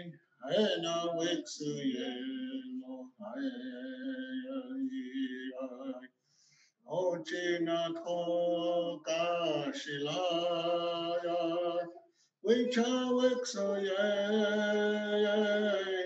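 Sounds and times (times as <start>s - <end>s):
man singing unaccompanied: 0.0s - 6.1s, 6.9s - 16.0s.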